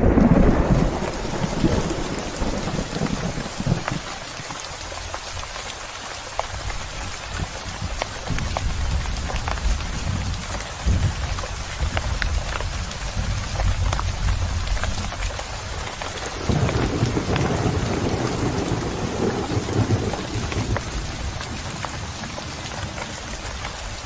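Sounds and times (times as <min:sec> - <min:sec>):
thunder rumbling: 0:00.0 - 0:04.6, 0:07.4 - 0:24.0
raindrop hits: 0:00.0 - 0:24.0
steady rain: 0:00.0 - 0:24.0.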